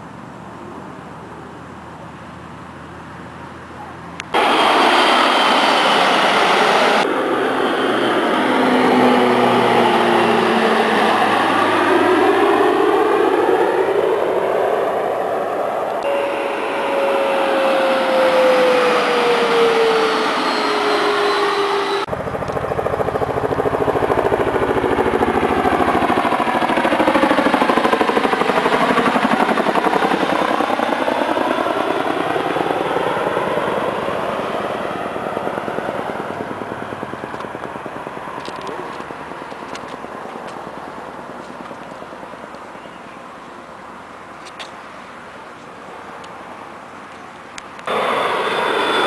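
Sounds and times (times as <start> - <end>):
propeller plane passing low: 0.2 - 43.6, 47.8 - 49.0
helicopter rotor beat: 4.3 - 42.6, 47.9 - 49.0.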